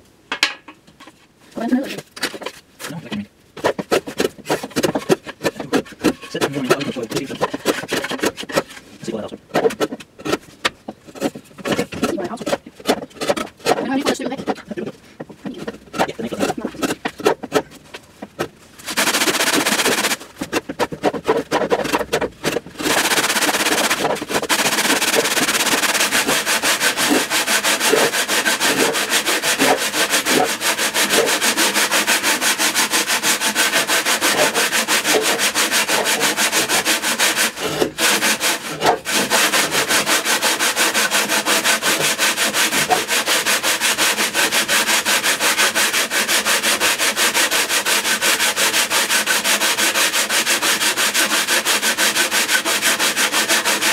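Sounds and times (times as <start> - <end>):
sandpaper rubbing on wood: 3.6 - 10.4, 11.2 - 17.8, 18.8 - 53.9.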